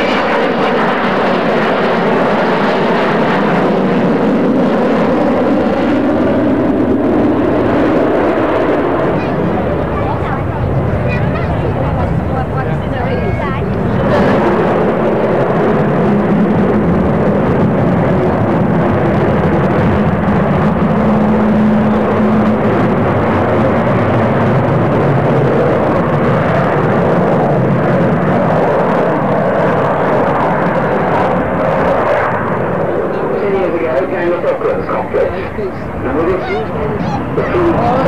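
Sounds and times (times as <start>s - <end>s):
jet aircraft roaring overhead: 0.0s - 38.0s
low steady drone: 0.0s - 38.0s.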